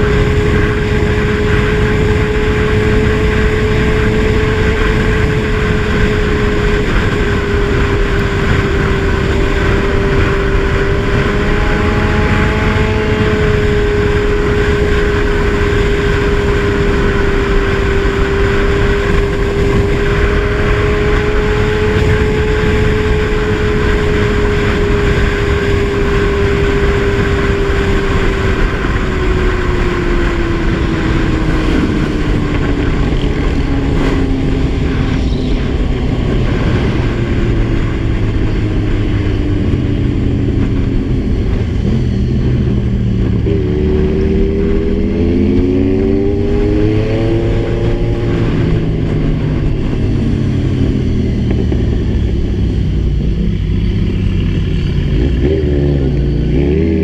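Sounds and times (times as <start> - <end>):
motorcycle engine: 0.0 - 57.0
wind rumble: 0.0 - 57.0.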